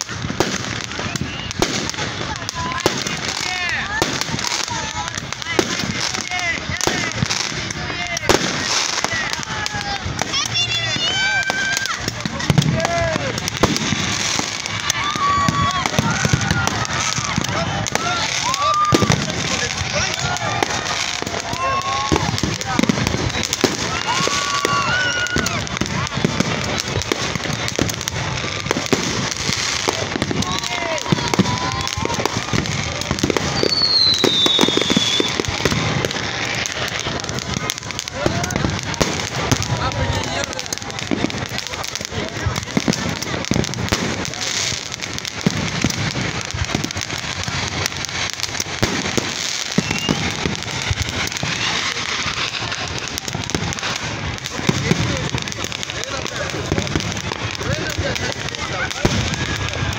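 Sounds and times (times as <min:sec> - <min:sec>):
crowd chatter: 0:00.0 - 0:59.9
fireworks popping and crackling: 0:00.0 - 0:59.9.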